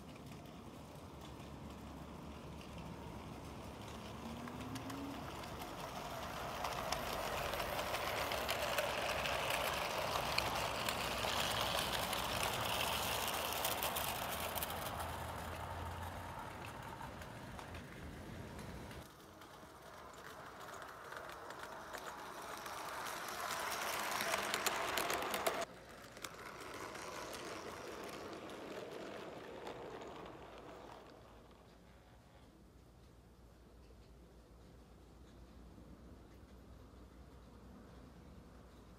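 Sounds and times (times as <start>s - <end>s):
model train rattling whirr: 0.0s - 33.2s.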